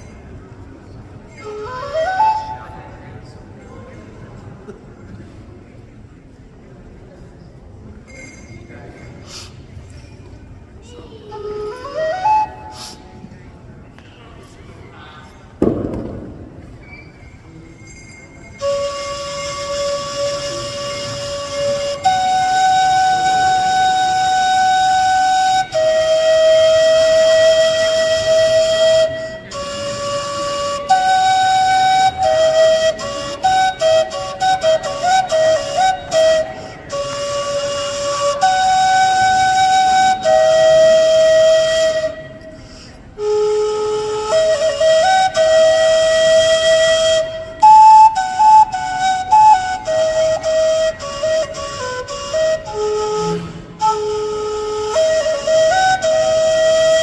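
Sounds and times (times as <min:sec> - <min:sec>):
high-pitched flute melody: 0:01.1 - 0:04.2, 0:10.8 - 0:13.4, 0:16.8 - 0:57.0.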